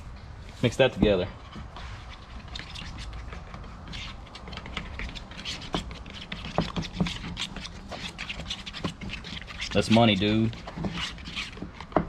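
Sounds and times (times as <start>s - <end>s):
utensil scraping sauce in a bowl: 1.2s - 11.9s.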